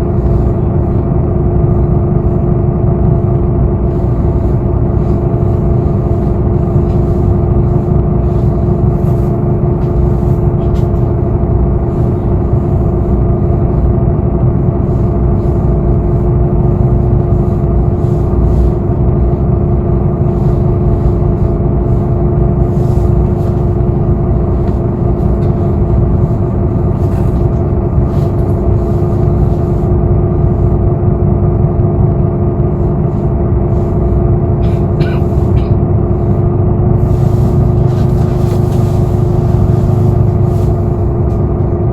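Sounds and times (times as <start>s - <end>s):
bus interior rumble: 0.0s - 41.9s
constant hum: 0.0s - 41.9s.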